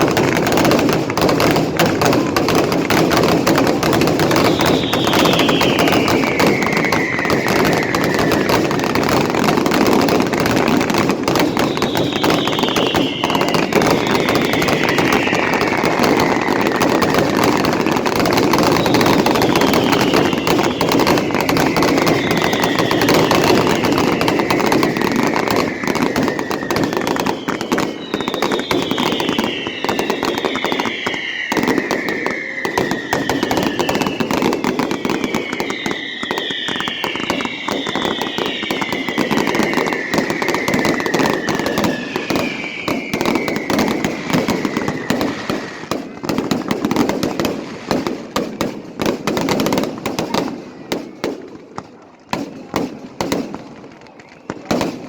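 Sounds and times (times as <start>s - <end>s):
fireworks crackling: 0.0s - 55.0s
fireworks whistling: 0.0s - 55.0s.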